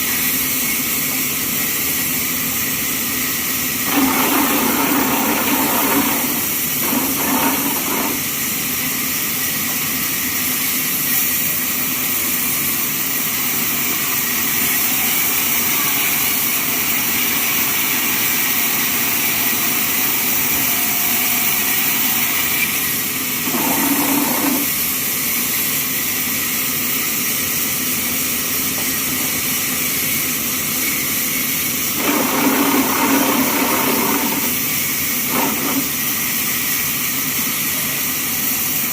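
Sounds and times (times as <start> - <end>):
band sawmill hissing: 0.0 - 38.9.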